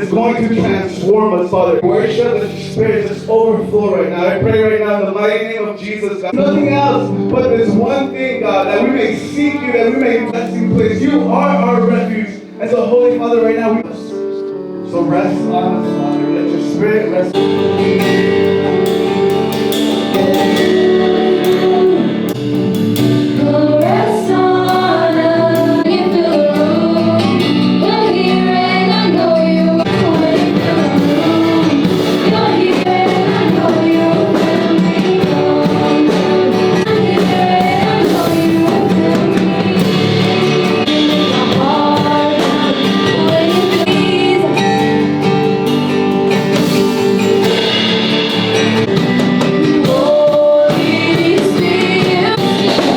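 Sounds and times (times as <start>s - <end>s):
voices singing worship song: 0.0s - 14.2s, 14.8s - 52.9s
band accompaniment: 0.0s - 52.9s.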